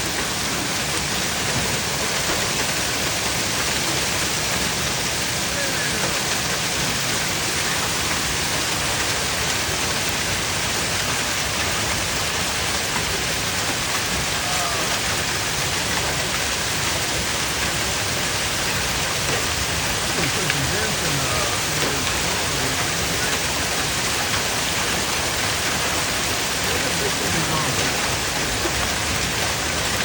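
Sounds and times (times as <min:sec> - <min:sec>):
hail and heavy rain pouring: 0:00.0 - 0:30.0.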